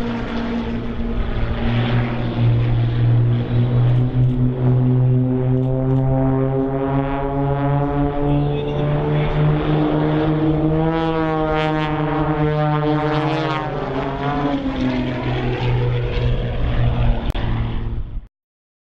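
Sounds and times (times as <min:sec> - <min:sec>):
propeller planes droning overhead: 0:00.0 - 0:18.3.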